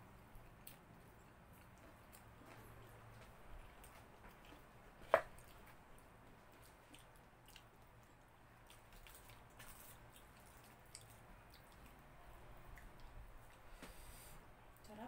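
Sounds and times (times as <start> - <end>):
people chewing and eating: 0.0 - 14.4.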